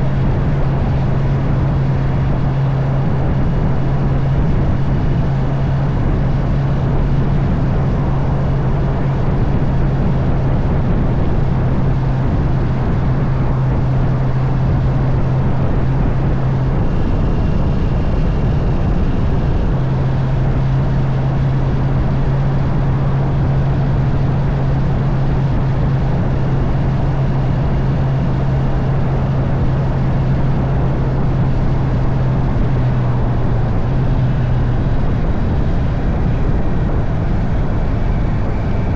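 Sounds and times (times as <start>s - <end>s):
motorcycle engine cruising: 0.0s - 38.9s
road noise: 0.0s - 38.9s
wind rush: 0.0s - 38.9s.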